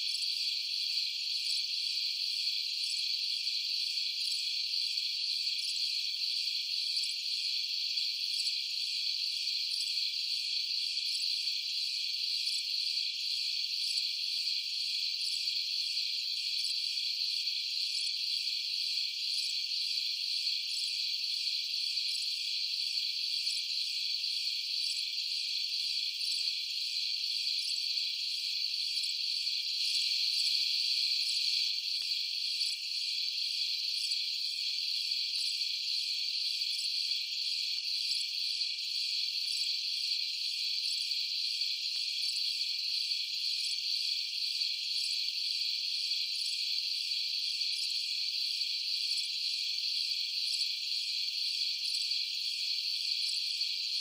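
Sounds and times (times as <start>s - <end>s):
crickets trilling: 0.1s - 54.0s.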